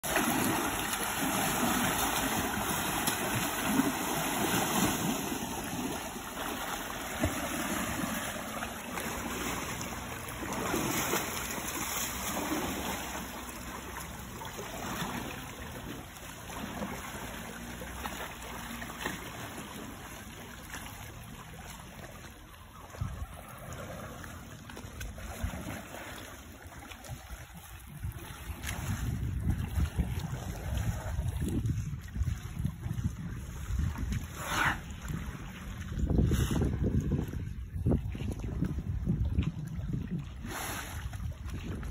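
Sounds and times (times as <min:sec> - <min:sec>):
muddy water splashing: 0:00.0 - 0:41.9.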